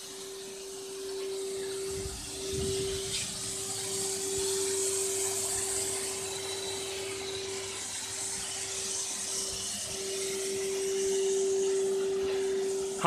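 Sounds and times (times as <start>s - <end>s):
car wash motor hum: 0.0s - 13.0s
even hiss: 0.0s - 13.0s.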